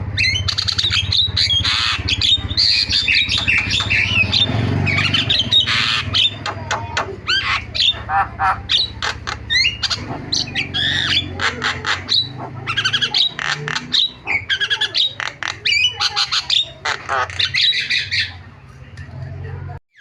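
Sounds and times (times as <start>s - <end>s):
myna singing varied mimicry song: 0.2s - 18.5s.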